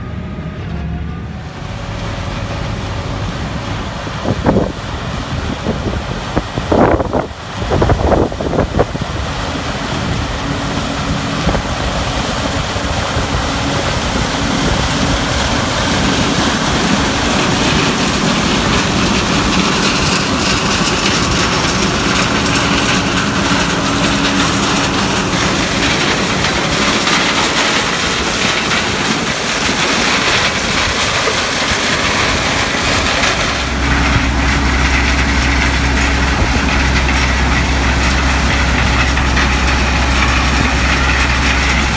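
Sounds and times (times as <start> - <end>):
deep low drone: 0.0 - 41.9
tractor engine rattling: 1.7 - 41.9.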